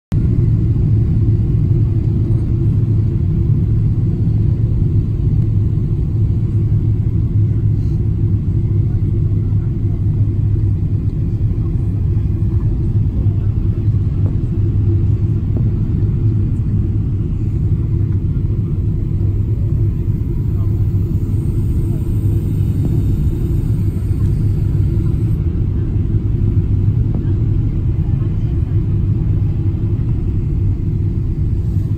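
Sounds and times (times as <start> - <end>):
jet cabin engine rumble: 0.1 - 31.9.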